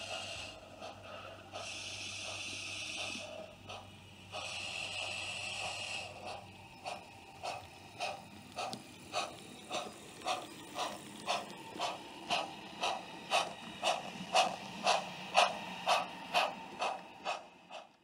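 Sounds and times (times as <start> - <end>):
model steam train chuffing: 0.0 - 18.0.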